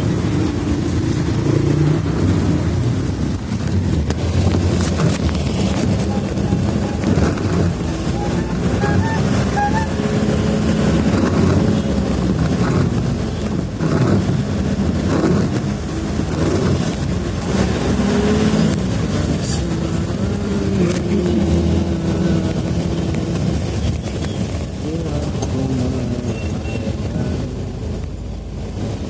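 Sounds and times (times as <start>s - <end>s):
road and wind noise: 0.0s - 29.0s
vehicle engine hum: 0.0s - 29.0s.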